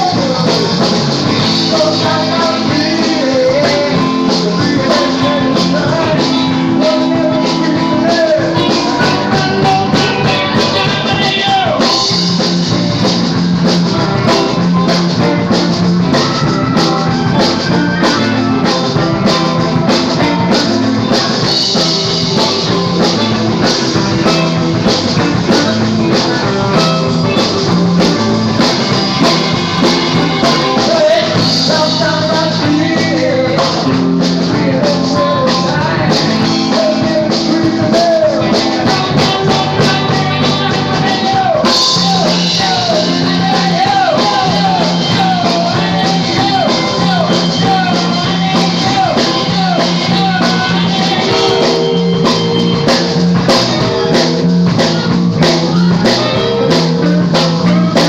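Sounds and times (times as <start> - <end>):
electric guitar lead: 0.0 - 58.0
rock band playing live: 0.0 - 58.0.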